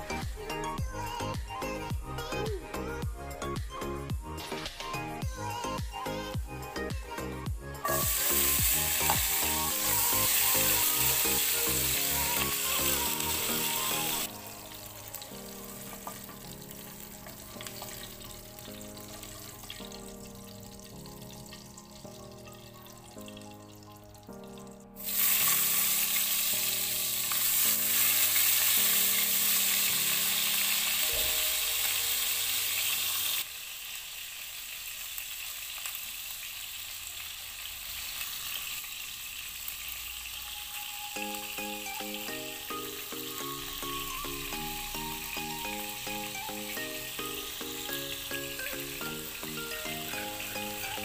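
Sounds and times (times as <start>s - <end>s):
background music: 0.0s - 33.4s, 40.4s - 51.0s
food sizzling in hot oil: 7.8s - 51.0s.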